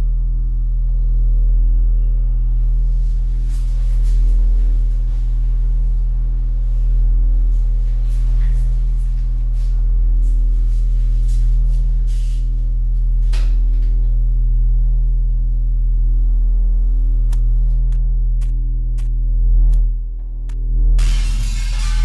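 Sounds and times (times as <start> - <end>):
low ambient drone: 0.0 - 22.0.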